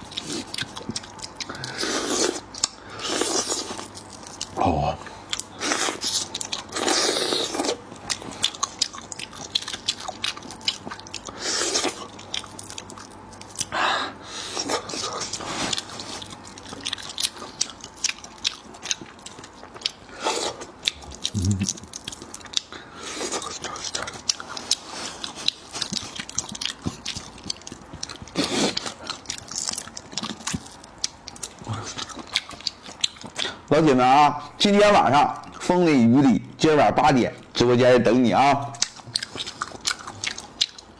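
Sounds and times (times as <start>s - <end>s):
close-miked chewing: 0.0s - 33.9s, 38.6s - 40.9s.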